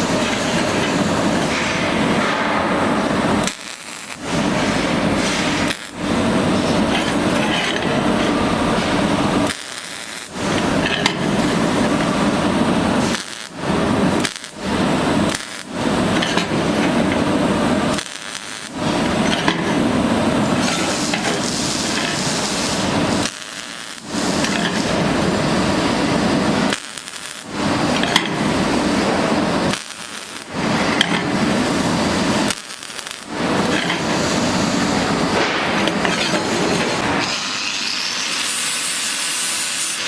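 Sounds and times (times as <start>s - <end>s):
welding arc crackling: 0.0s - 40.0s.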